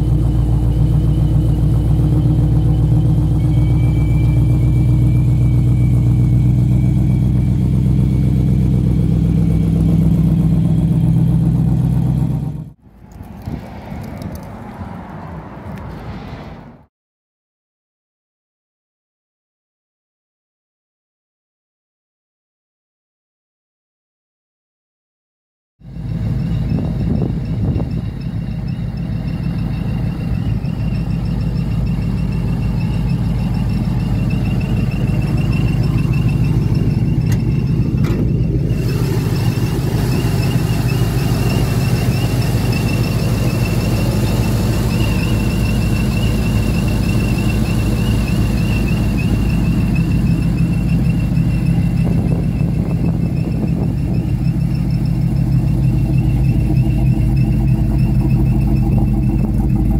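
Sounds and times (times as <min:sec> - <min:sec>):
supercharger high whine: 0:00.0 - 0:14.5, 0:25.9 - 0:59.9
truck engine idling: 0:00.0 - 0:15.9, 0:25.9 - 0:59.9.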